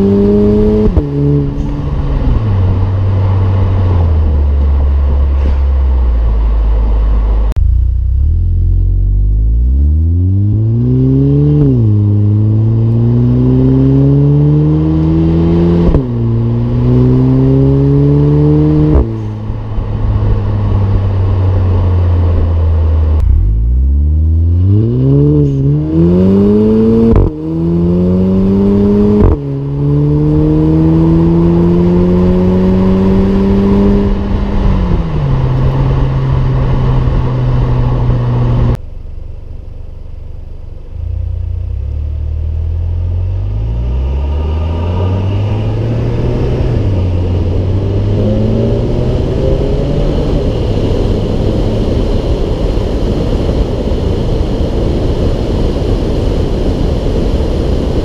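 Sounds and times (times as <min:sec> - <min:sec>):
car engine accelerating hard: 0:00.0 - 0:38.8, 0:40.0 - 0:58.0.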